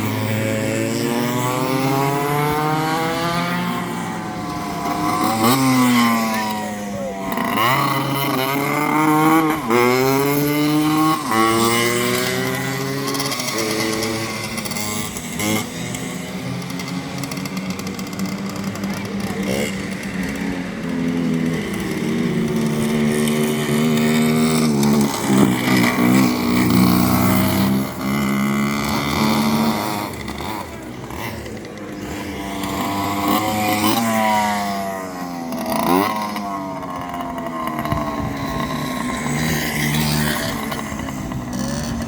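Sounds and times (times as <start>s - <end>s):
go-kart engines running: 0.0s - 42.0s.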